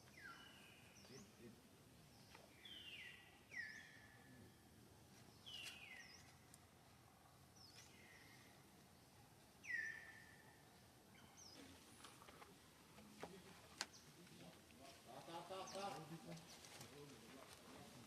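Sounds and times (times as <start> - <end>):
outdoor background: 0.0 - 18.0.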